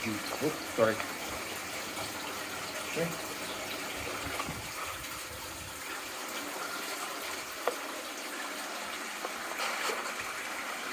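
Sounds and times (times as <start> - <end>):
water running: 0.0 - 10.9.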